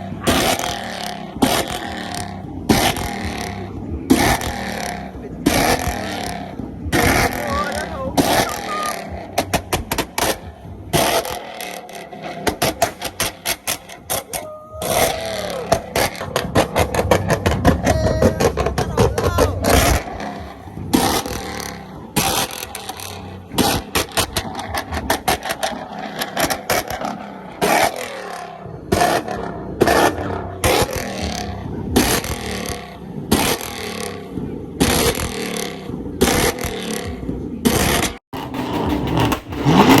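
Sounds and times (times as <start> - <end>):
vehicles running: 0.0 - 40.0.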